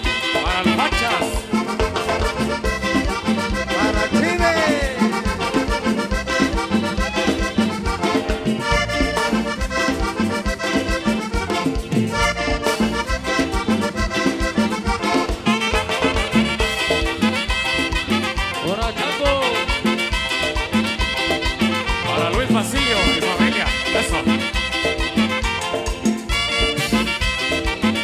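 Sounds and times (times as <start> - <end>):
live latin dance band: 0.0 - 28.0.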